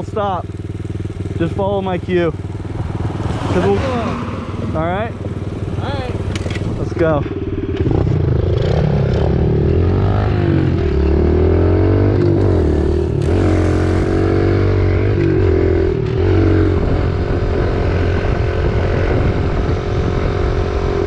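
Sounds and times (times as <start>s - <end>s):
motorbike engines accelerating: 0.0s - 21.0s.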